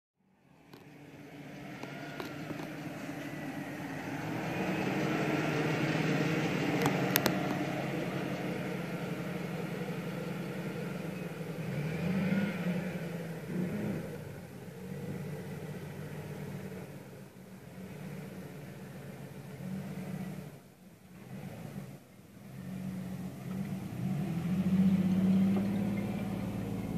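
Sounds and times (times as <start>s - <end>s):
pickup engine idling and revving: 0.3s - 26.9s.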